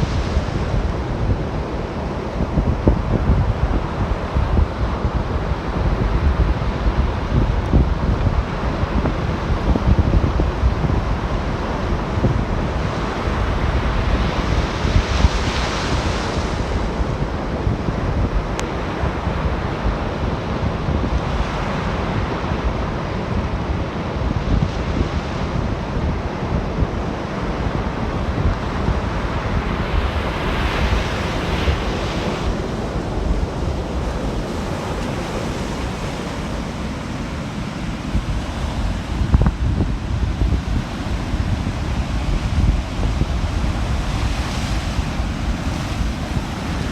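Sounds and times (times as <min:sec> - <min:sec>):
waves breaking and rushing in: 0:00.0 - 0:46.9
waves washing on beach: 0:00.0 - 0:46.9
wind buffeting microphone: 0:00.0 - 0:46.9.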